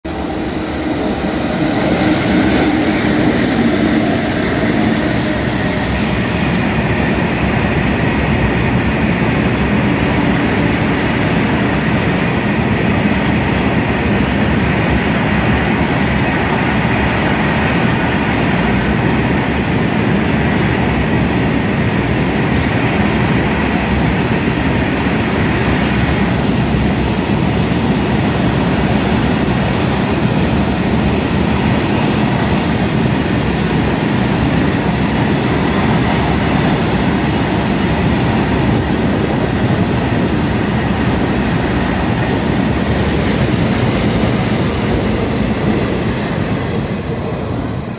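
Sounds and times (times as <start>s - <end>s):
train wheels running on rails: 0.0s - 47.9s.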